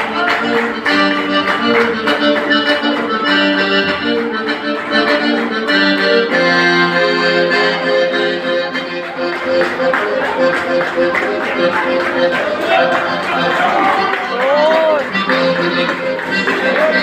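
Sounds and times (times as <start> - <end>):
handclaps: 0.0 - 6.2, 8.7 - 17.0
accordion dance tune: 0.0 - 17.0.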